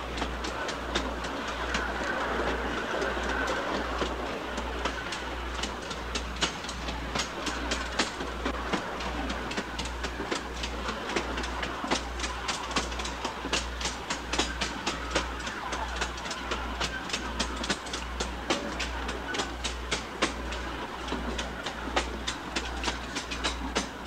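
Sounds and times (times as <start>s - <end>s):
train wheels clattering: 0.0s - 24.0s.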